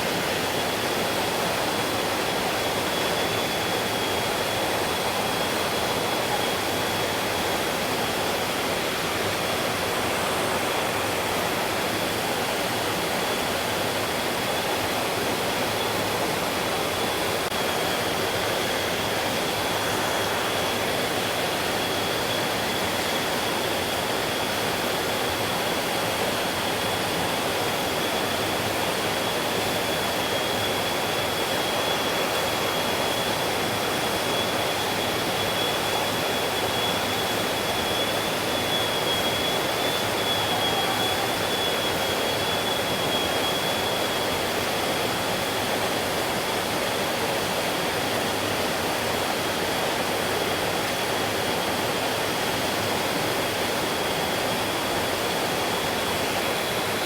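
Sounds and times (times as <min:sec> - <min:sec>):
thin high whine: 0:00.1 - 0:46.8.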